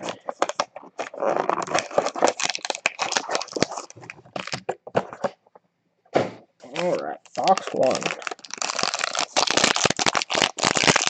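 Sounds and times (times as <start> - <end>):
plastic packaging crinkling: 0.0 - 5.4, 6.7 - 11.0.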